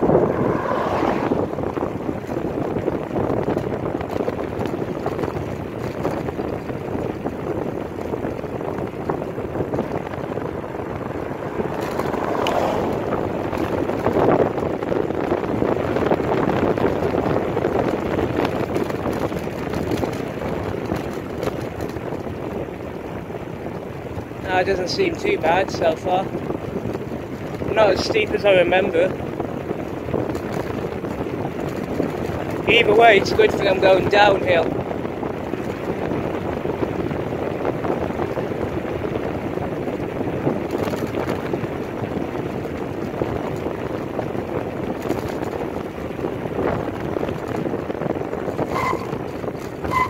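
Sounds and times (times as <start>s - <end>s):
tyres rumbling on tarmac: 0.0s - 50.0s
wind rushing over microphone: 0.0s - 50.0s.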